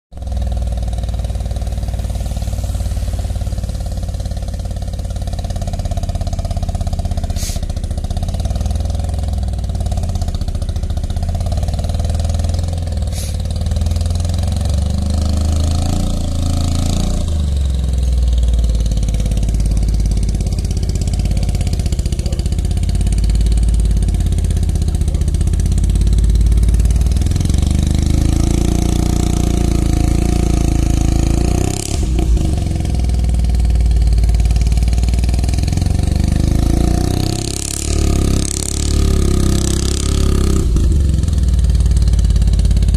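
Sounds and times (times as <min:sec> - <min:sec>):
rotary car engine exhaust at low revs: 0:00.1 - 0:42.9.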